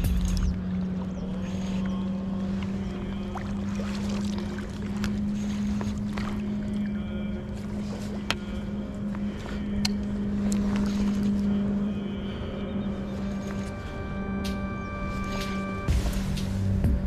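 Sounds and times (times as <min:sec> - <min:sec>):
locomotive hum and rumble: 0:00.0 - 0:17.0.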